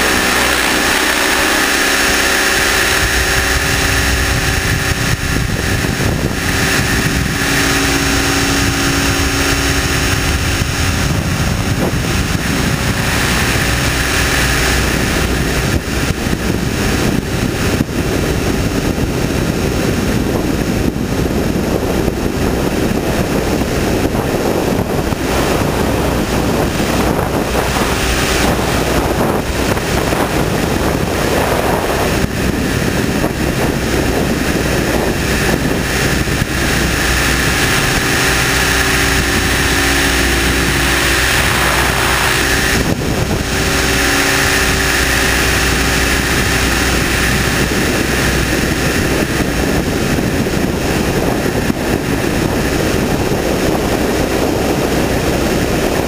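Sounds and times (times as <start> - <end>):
helicopter rotor rushing: 0.0 - 56.0
rc helicopter motor whine: 0.0 - 56.0.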